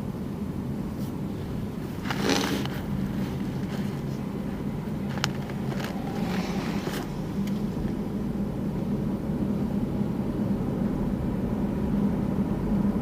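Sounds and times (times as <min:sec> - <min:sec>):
car engine and road hum: 0:00.0 - 0:13.0.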